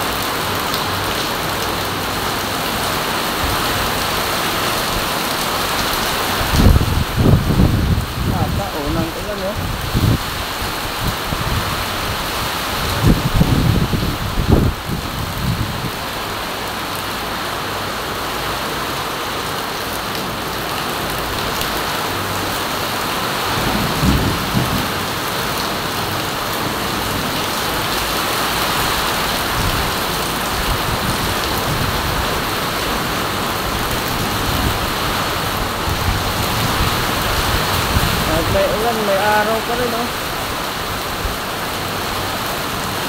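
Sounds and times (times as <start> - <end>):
heavy rain on concrete and roofing: 0.0 - 43.0.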